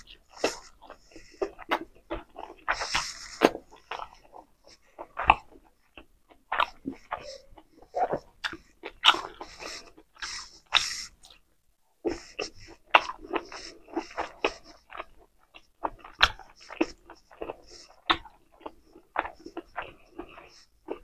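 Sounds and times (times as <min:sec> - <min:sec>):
chewing food with lips closed: 0:00.0 - 0:11.5, 0:12.1 - 0:21.0.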